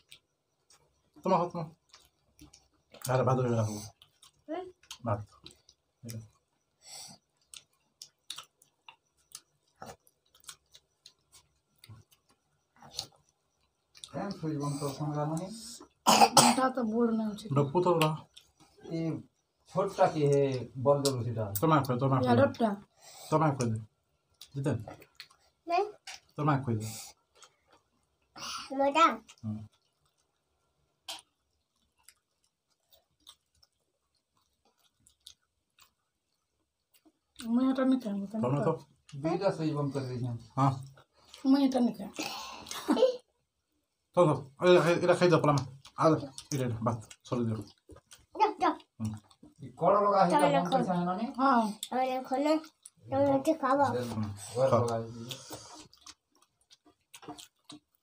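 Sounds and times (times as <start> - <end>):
people chewing food: 0.0 - 58.0
people eating rice by hand: 0.0 - 58.0.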